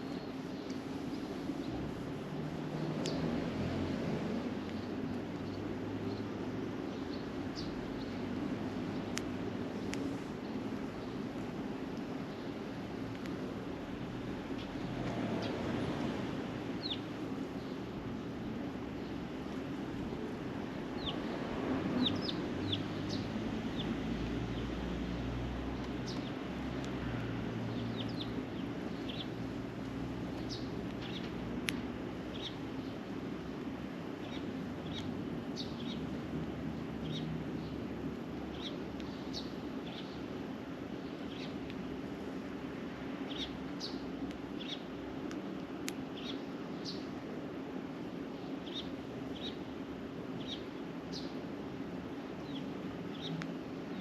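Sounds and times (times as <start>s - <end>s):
sparrows chirping: 0.0s - 3.6s, 4.4s - 26.7s, 27.5s - 42.1s, 43.1s - 45.0s, 46.0s - 47.2s, 48.3s - 51.5s, 52.1s - 54.0s.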